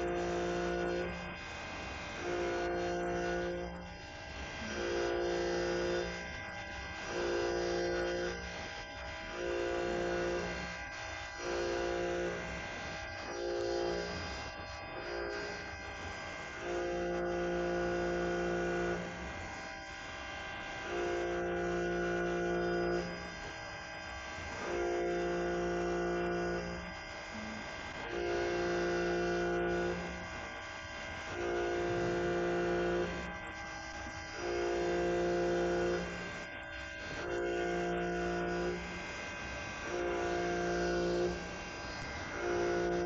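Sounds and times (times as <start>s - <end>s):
machine hum: 0.0s - 43.0s
motor whine: 0.0s - 43.0s.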